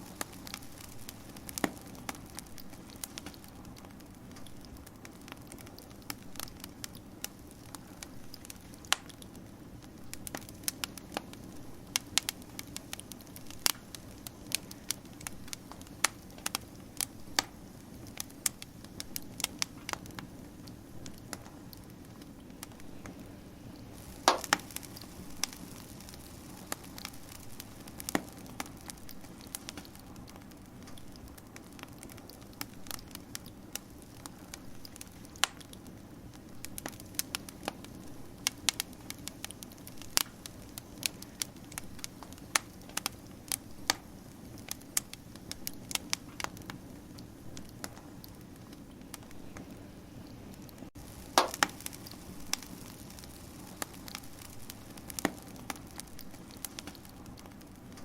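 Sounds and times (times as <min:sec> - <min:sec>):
low rumble of burning: 0:00.0 - 0:58.0
wood fire crackling and popping: 0:00.0 - 0:58.0.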